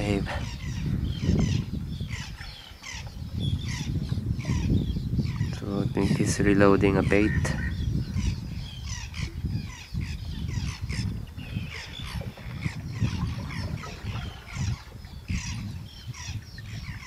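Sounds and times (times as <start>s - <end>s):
seabirds calling: 0.0s - 17.0s.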